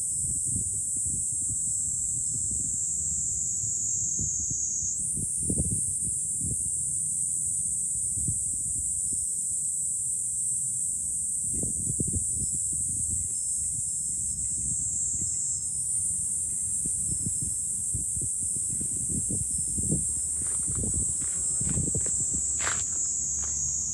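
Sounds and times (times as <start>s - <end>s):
cicadas shrilling: 0.1s - 23.9s
wind rumbling on microphone: 0.2s - 7.0s, 11.3s - 23.9s.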